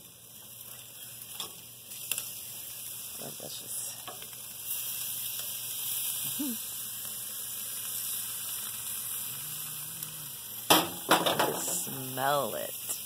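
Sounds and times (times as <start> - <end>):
patties sizzling on a grill: 0.0 - 13.0.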